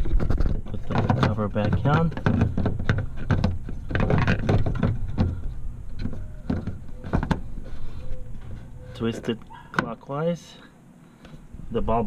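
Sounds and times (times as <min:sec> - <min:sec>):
plastic scraping and clicking: 0:00.0 - 0:09.9.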